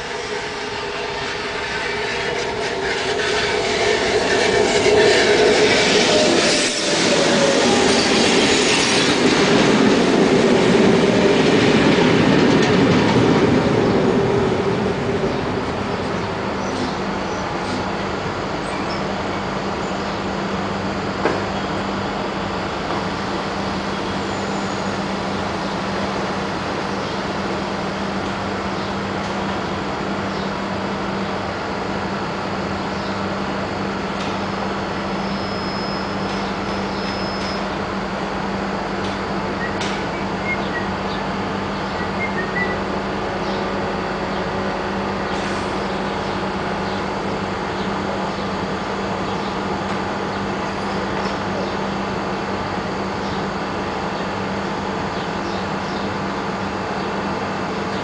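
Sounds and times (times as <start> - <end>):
train equipment humming: 0.0 - 58.0.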